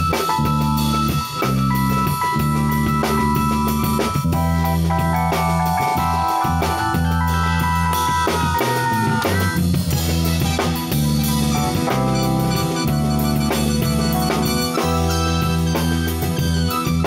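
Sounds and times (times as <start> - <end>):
bass line: 0.0 - 17.0
drum kit beat: 0.0 - 17.0
funk band playing: 0.0 - 17.0.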